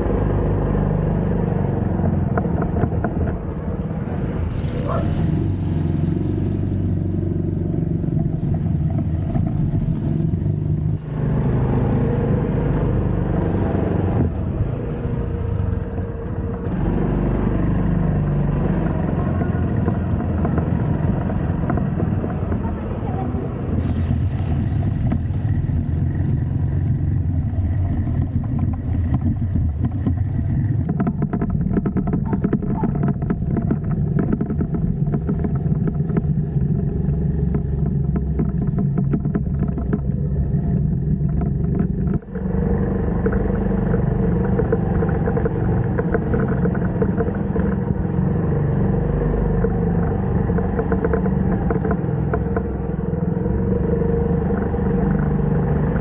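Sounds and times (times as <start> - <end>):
moped engine running: 0.0 - 15.8, 16.5 - 56.0
road noise: 0.0 - 56.0.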